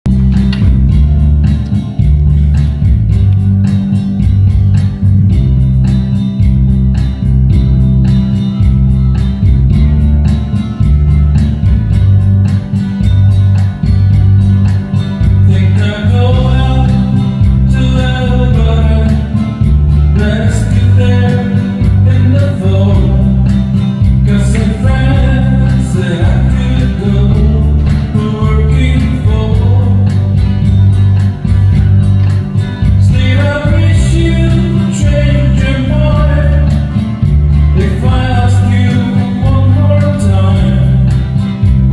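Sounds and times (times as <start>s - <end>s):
country folk song with guitar: 0.1s - 41.9s.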